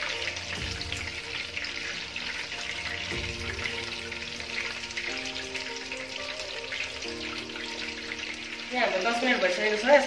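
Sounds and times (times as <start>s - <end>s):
chicken deep-frying in oil: 0.0s - 10.0s
soft background music: 0.0s - 10.0s.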